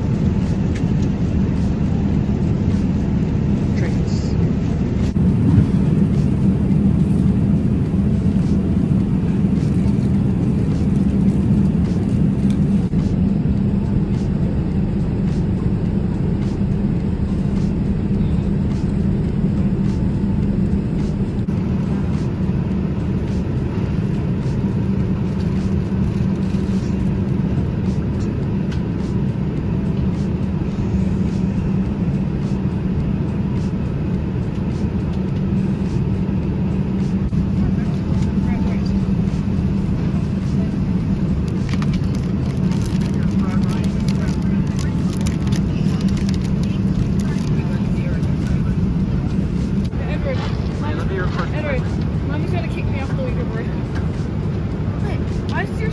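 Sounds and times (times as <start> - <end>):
airliner cabin drone: 0.0 - 55.9.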